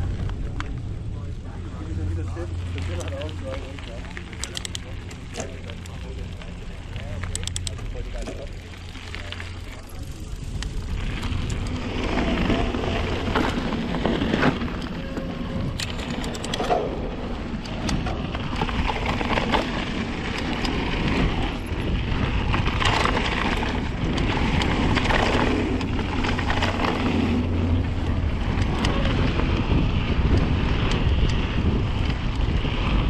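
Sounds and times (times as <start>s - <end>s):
tyre noise on trail: 0.0s - 33.0s
wind rumble on microphone: 0.0s - 33.0s
bike rattling and knocking: 1.8s - 33.0s.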